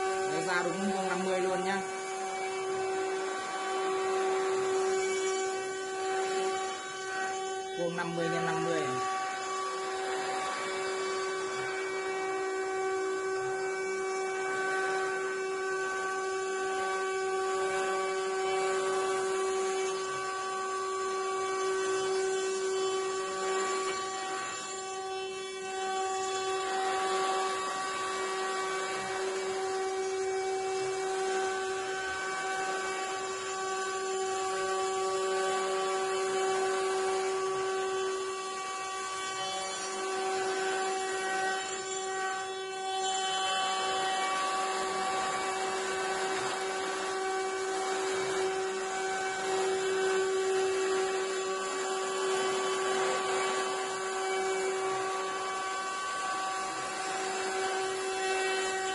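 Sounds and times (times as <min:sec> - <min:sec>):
bit cutting wood hiss: 0:00.0 - 0:58.9
router spindle whining: 0:00.0 - 0:58.9.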